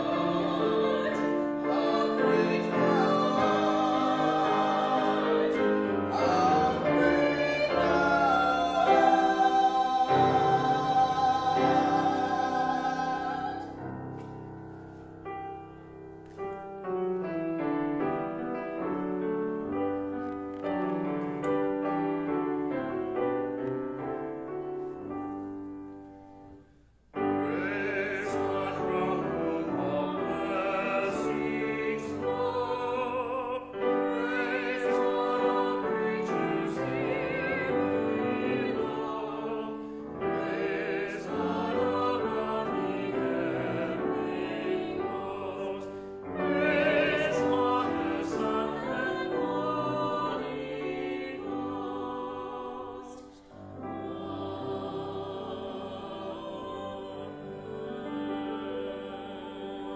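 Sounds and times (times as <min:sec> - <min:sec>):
classical singing with vibrato: 0:00.0 - 0:59.9
grand piano: 0:00.0 - 0:59.9.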